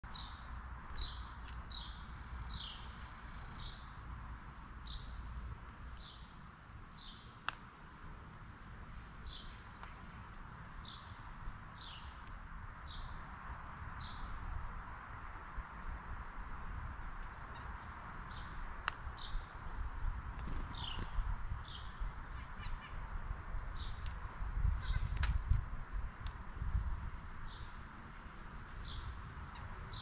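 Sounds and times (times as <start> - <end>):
songbirds chirping: 0.0 - 15.8, 17.3 - 25.2, 27.3 - 30.0.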